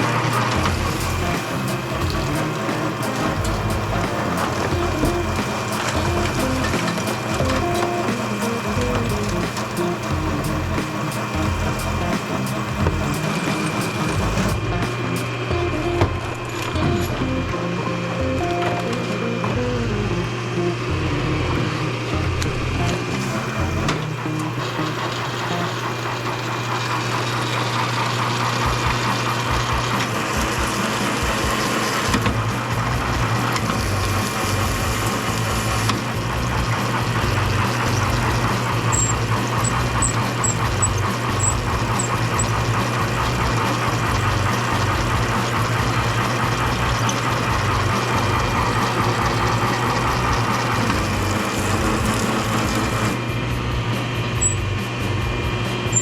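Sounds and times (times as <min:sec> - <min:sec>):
motor-driven machine running: 0:00.0 - 0:56.0.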